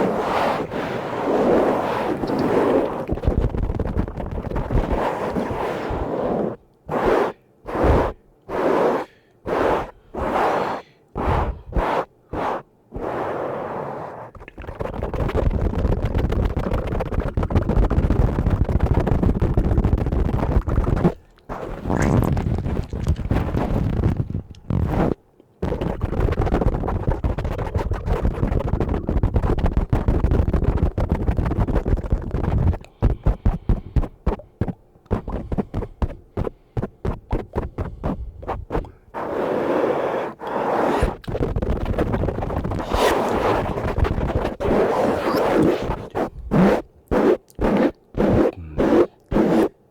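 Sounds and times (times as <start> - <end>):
brush rubbing over microphone: 0.0 - 49.8.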